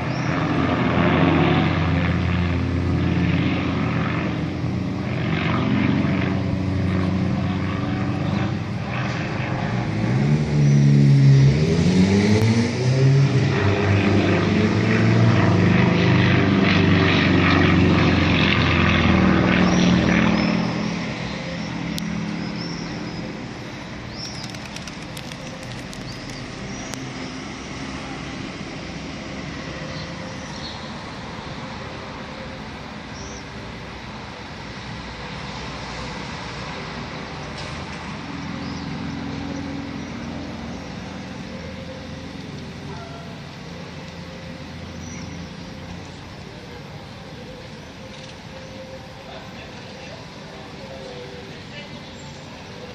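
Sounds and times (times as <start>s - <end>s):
propeller planes flying overhead: 0.0s - 52.9s.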